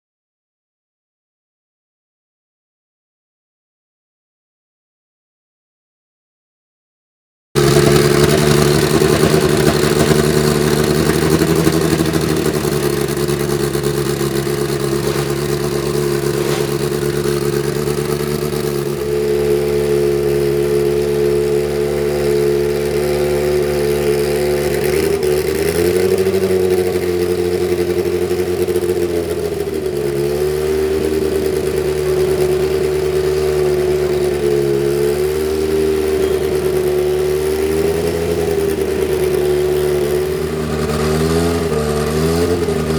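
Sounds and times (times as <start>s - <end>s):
racing car engine running: 7.6s - 42.9s.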